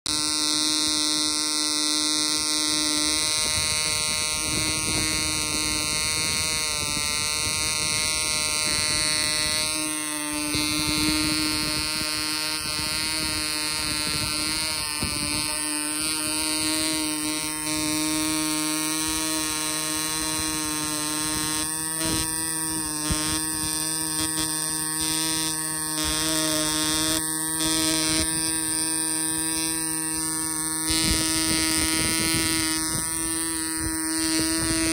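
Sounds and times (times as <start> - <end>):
model engine buzzing: 0.0 - 34.9.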